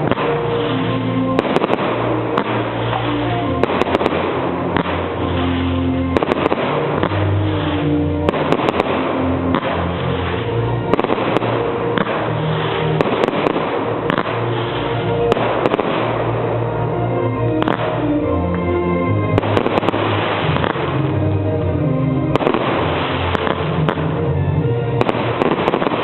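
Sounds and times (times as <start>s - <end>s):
fireworks bangs: 0.0s - 26.0s
music with held notes: 0.0s - 26.0s.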